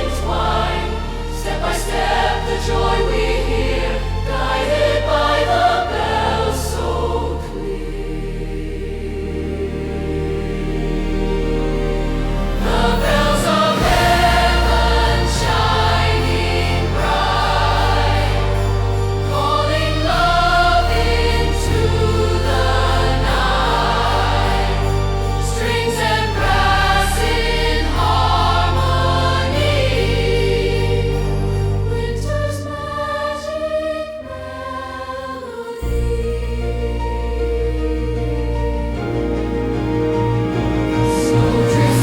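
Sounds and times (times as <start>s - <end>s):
choir singing: 0.0s - 42.0s
orchestral low chords: 0.0s - 42.0s.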